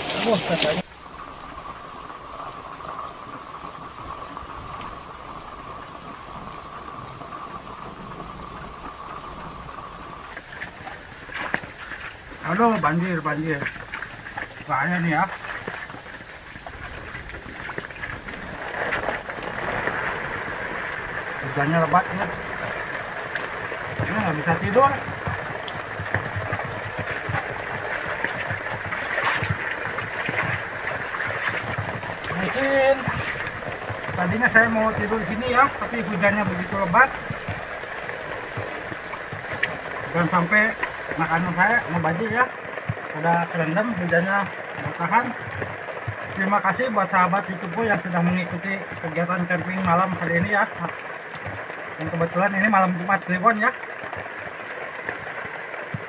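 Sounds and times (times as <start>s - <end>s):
heavy rain on a tent: 0.0s - 56.0s.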